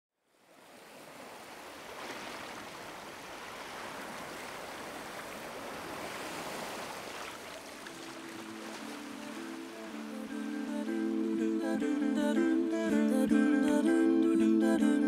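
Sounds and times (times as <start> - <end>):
rushing water: 0.3 - 13.0.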